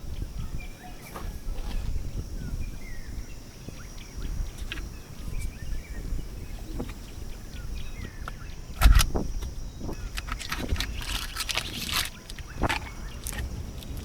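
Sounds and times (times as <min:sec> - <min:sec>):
wind rumble: 0:00.0 - 0:14.0
small birds chirping: 0:00.1 - 0:14.0.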